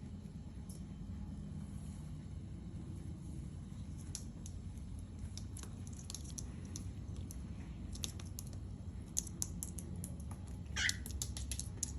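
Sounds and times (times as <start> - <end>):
low steady rumble: 0.0 - 11.9.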